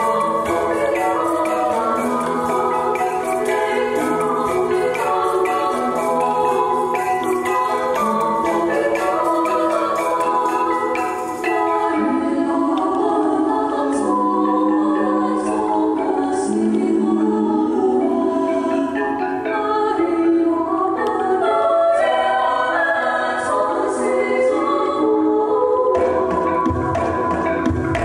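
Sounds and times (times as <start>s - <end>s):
choir singing held chords: 0.0s - 28.0s
instrumental backing: 0.0s - 28.0s.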